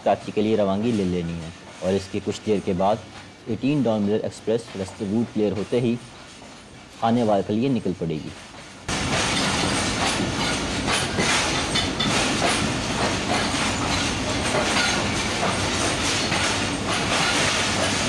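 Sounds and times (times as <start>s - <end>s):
train wheels clattering over rail joints: 0.1s - 18.0s.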